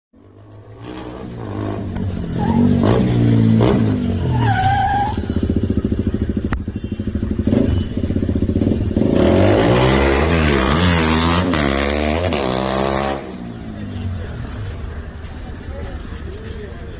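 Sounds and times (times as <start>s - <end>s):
motorcycle engines revving: 0.2s - 16.9s.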